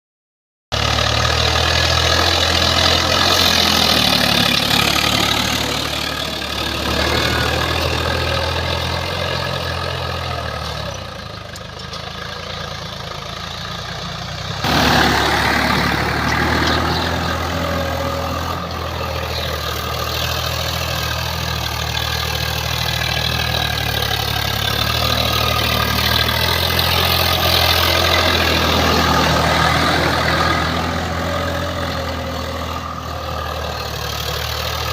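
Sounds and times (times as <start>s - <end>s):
tractor diesel engine running: 0.7s - 34.9s.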